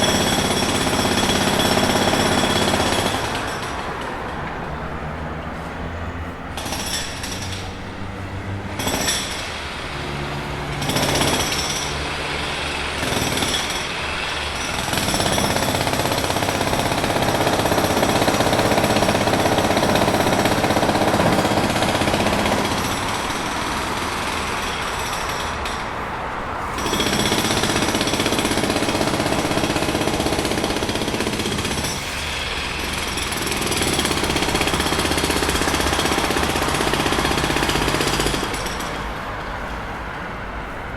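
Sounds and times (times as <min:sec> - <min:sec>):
jackhammer hammering: 0:00.0 - 0:26.0, 0:26.7 - 0:39.7.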